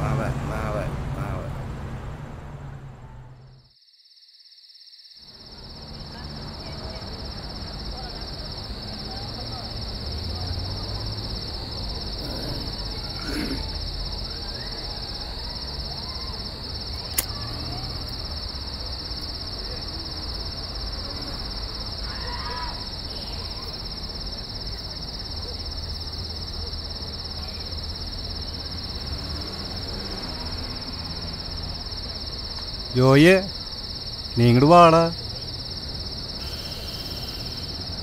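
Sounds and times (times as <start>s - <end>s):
crickets trilling: 3.6s - 38.0s.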